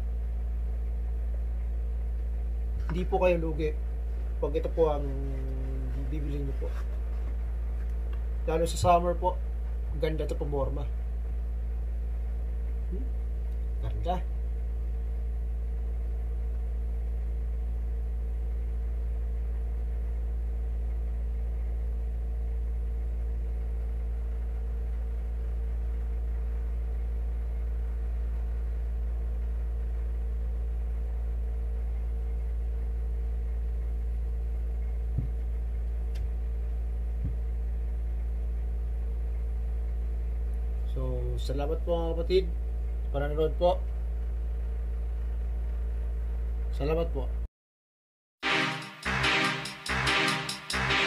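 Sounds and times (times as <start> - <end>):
steady low hum: 0.0 - 47.5, 48.4 - 51.0.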